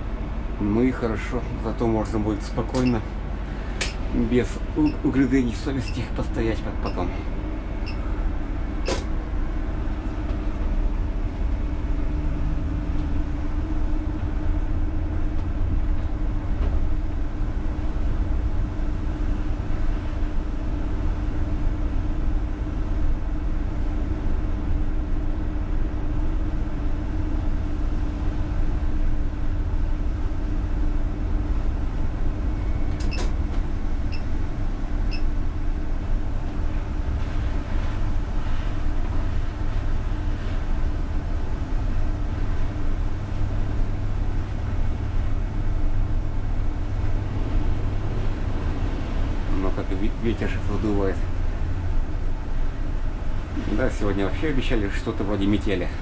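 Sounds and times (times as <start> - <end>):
steady hum: 0.0 - 56.0
trolleybus rumble: 0.0 - 56.0.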